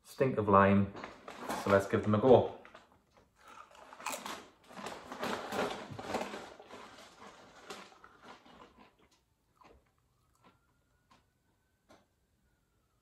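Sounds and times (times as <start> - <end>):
crisps being chewed: 1.0 - 11.6.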